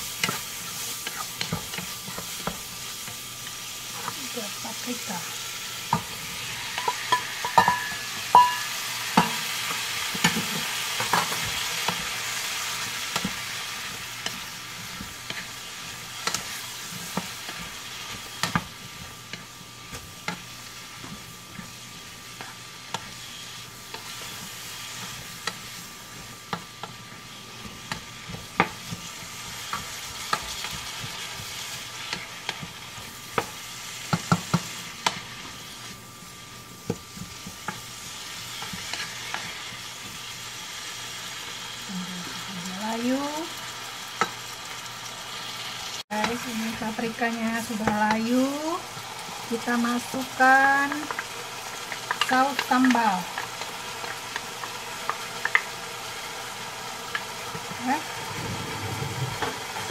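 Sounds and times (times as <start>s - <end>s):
peppers sizzling in hot oil: 0.0s - 59.9s.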